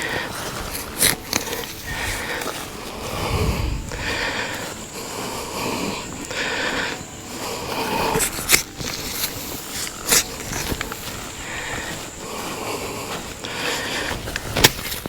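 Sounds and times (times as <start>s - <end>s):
man breathing heavily: 0.0s - 15.0s.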